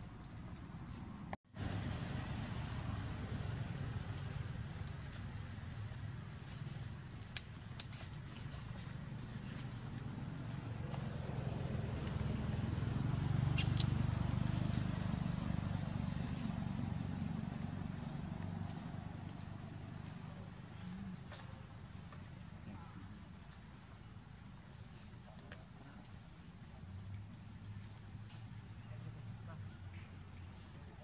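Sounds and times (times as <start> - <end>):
low engine hum: 0.0 - 31.0.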